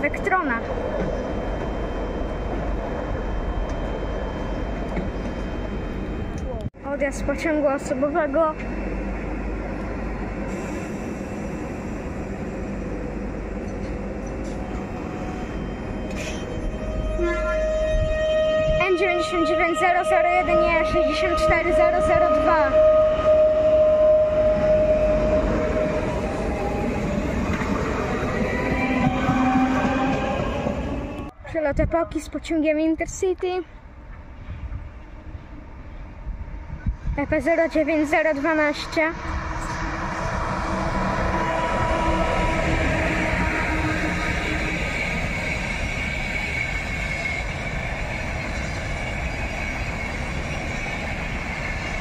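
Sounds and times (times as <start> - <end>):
electric train passing: 0.0 - 31.4, 32.2 - 52.0.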